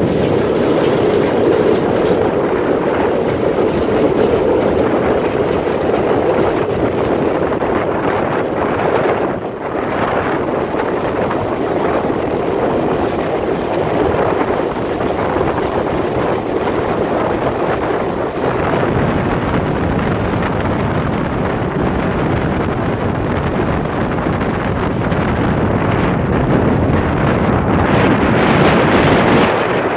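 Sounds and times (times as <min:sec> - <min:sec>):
train wheels on rails: 0:00.0 - 0:29.9
wind buffeting microphone: 0:00.0 - 0:29.9.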